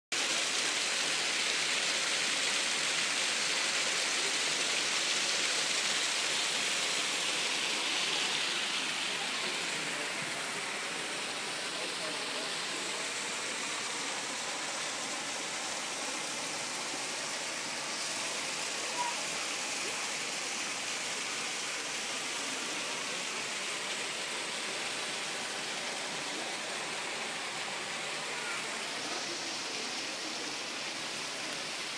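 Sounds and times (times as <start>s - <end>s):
waterfall rushing: 0.2s - 31.9s.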